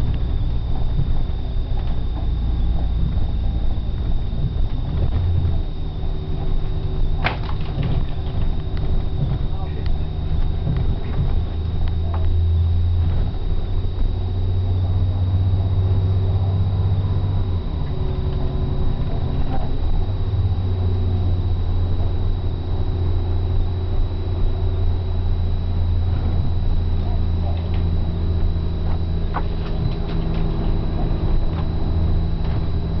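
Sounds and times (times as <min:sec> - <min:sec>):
engine and road noise: 0:00.0 - 0:33.0
thin high whine: 0:00.0 - 0:33.0.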